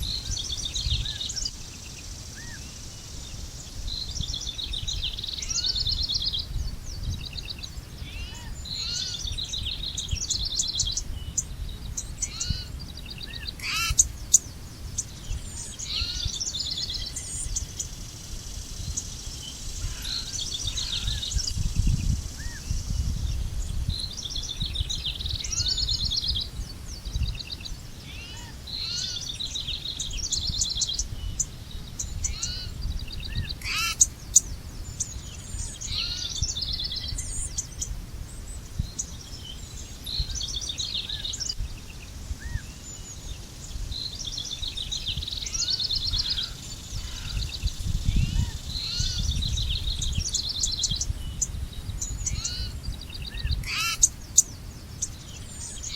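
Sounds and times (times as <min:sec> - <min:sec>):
wind noise rumble: 0:00.0 - 0:28.0, 0:28.8 - 0:55.9
songbirds singing: 0:00.0 - 0:55.9.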